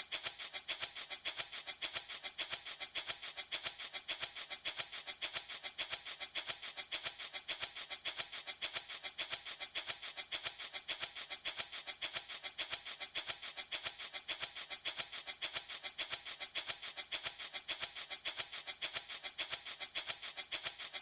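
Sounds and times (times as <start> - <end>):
baby rattle shaking: 0.0 - 21.0.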